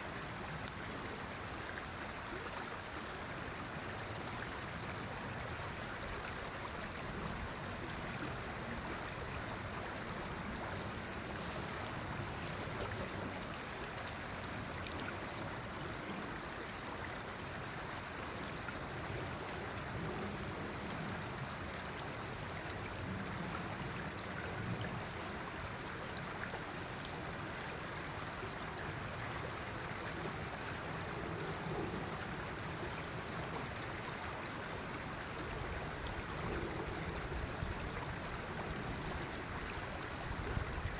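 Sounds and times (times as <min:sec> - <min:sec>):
river water rushing and babbling: 0:00.0 - 0:40.9.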